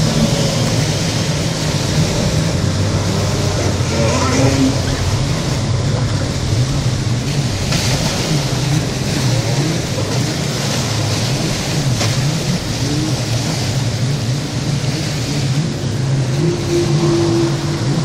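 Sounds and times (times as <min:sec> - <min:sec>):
jet ski engine running: 0:00.0 - 0:18.0
steady rushing noise: 0:00.0 - 0:18.0.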